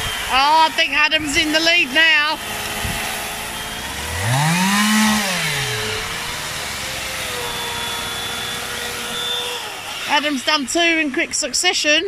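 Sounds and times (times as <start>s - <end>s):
petrol chainsaw revving: 0.0s - 11.8s
electric chainsaw whining: 0.0s - 12.0s.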